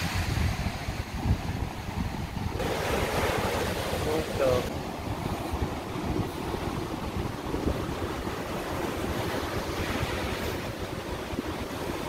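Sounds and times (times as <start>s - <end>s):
ocean surf washing on beach: 0.0s - 12.0s
wind buffeting microphone: 0.0s - 12.0s.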